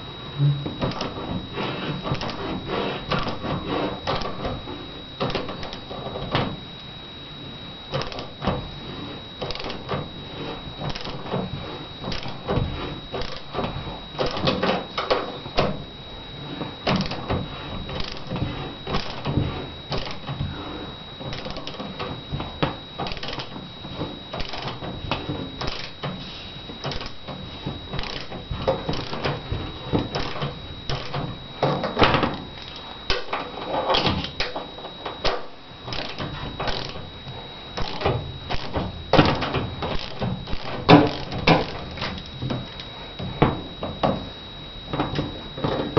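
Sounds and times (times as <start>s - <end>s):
faint high-pitched whine: 0.0s - 45.9s.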